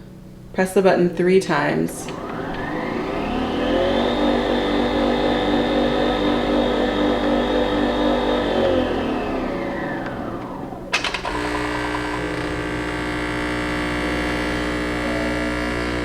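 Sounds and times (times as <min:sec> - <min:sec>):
coffee machine humming: 0:01.9 - 0:16.0
coffee machine motor whirring: 0:01.9 - 0:16.0.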